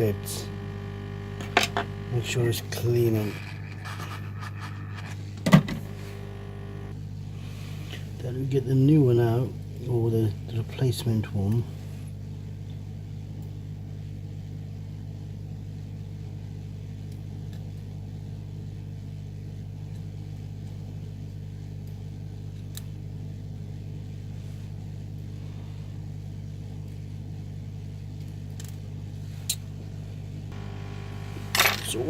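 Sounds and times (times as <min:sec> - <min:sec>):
soldering station humming: 0:00.0 - 0:32.0.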